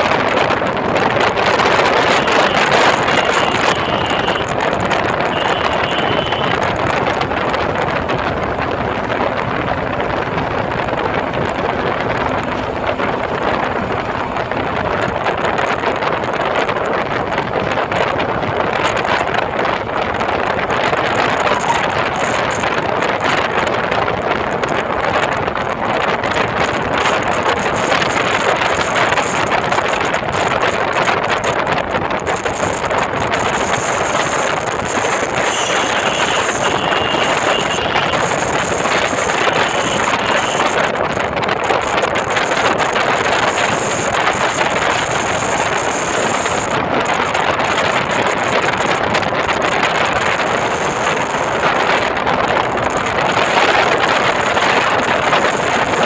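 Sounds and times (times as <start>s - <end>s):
road and vehicle noise: 0.0s - 56.0s
wind rushing over microphone: 0.0s - 56.0s.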